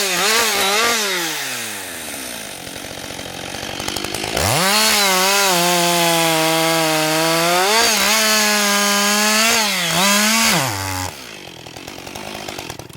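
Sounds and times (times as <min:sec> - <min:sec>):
chainsaw cutting wood: 0:00.0 - 0:12.9
chainsaw idling: 0:00.0 - 0:12.9.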